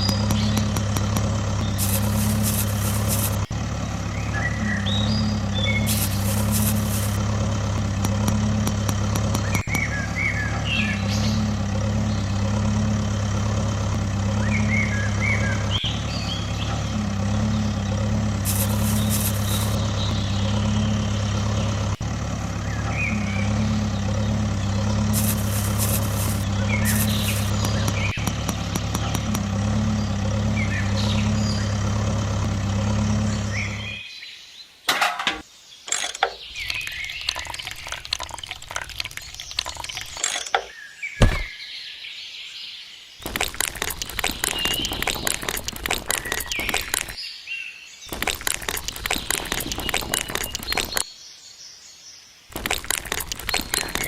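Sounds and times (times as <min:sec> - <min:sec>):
engine idling hum: 0:00.0 - 0:34.1, 0:36.4 - 0:40.2, 0:41.2 - 0:41.6, 0:43.2 - 0:47.2, 0:48.1 - 0:51.1, 0:52.5 - 0:54.0
birds chirping: 0:00.0 - 0:54.0.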